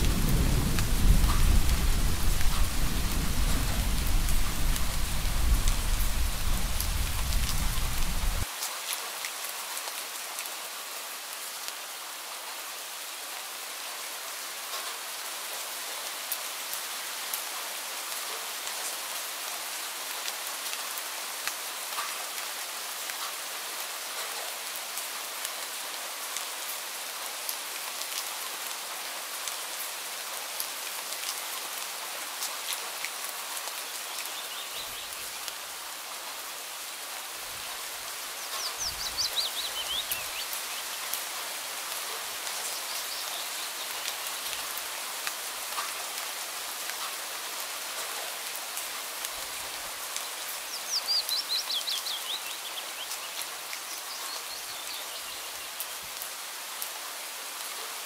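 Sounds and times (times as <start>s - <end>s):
rain pattering: 0.0s - 11.8s, 14.6s - 57.8s.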